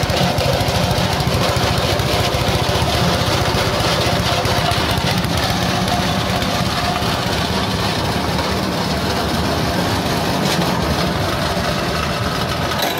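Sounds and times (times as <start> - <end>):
grinding machine drone: 0.0 - 12.9.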